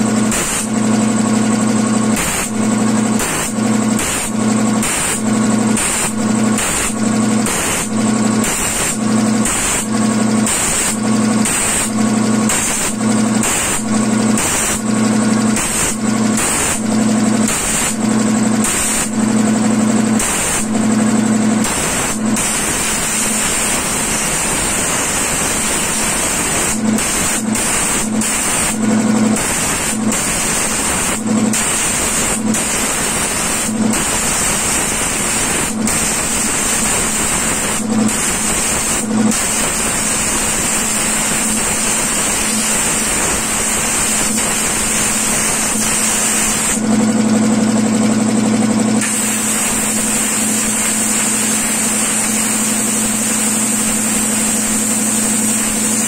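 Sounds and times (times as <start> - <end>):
compressed air hissing: 0.0 - 0.7, 2.1 - 14.8, 15.5 - 18.0, 18.6 - 19.3, 20.1 - 20.8, 21.6 - 46.9, 49.0 - 56.0
air compressor humming: 0.0 - 56.0.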